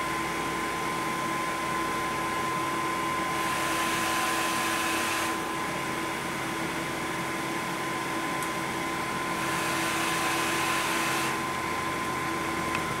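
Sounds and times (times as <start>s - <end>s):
ventilator air rush: 0.0s - 13.0s
ventilator whine: 0.0s - 13.0s.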